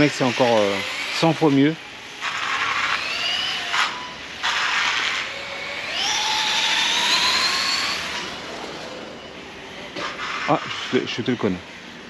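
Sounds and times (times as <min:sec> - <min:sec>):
electric motor whining: 0:00.0 - 0:11.4.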